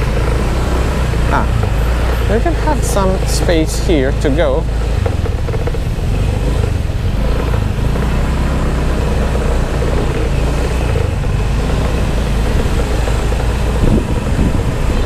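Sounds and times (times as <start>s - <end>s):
motorcycle engine idling: 0.0s - 15.0s
traffic drone: 0.0s - 15.0s.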